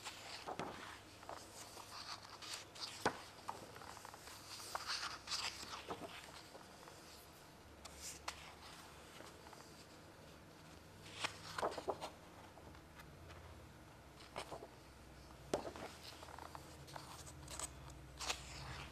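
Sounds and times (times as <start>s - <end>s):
book pages turning: 0.0s - 10.0s, 10.6s - 13.4s, 14.2s - 14.8s, 15.5s - 18.9s.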